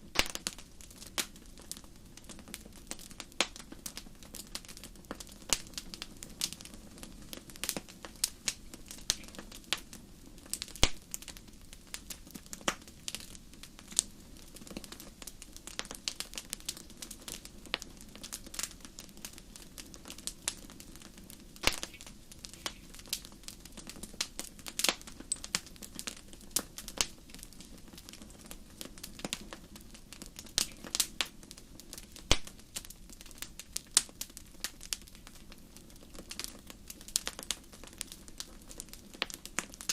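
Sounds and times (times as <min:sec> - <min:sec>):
low hiss of flames: 0:00.0 - 0:39.9
wood fire crackling: 0:00.0 - 0:39.9.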